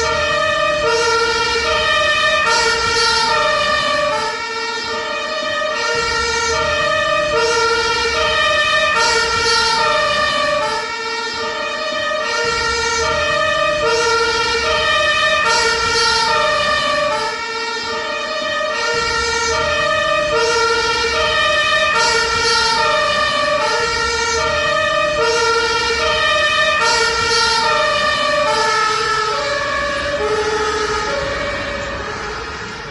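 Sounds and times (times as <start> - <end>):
ambulance two-tone siren: 0.0 - 32.9
low vehicle rumble: 0.0 - 32.9.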